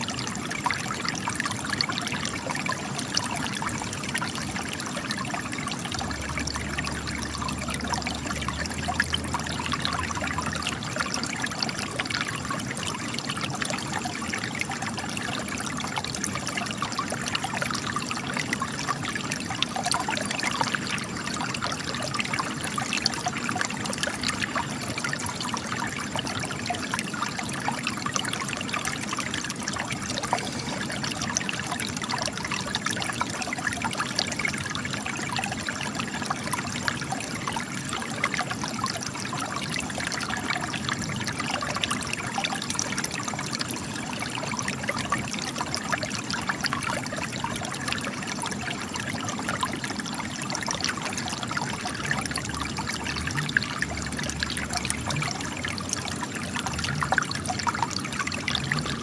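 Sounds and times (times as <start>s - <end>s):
spring water trickling: 0.0s - 59.0s.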